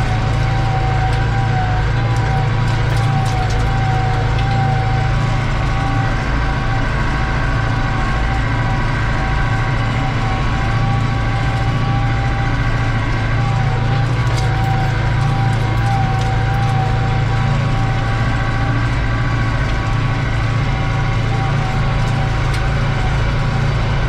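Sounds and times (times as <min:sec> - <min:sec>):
tractor engine drone: 0:00.0 - 0:24.0.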